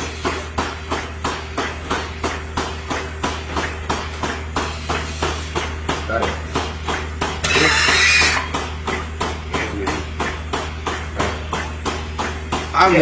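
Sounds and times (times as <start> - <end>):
milking machine pulsators beating: 0.0 - 13.0
vacuum pump humming: 0.0 - 13.0.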